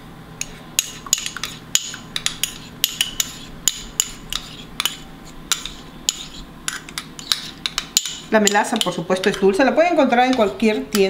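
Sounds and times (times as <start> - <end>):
metal spoons clinking and scraping: 0.4 - 9.5, 10.2 - 11.0.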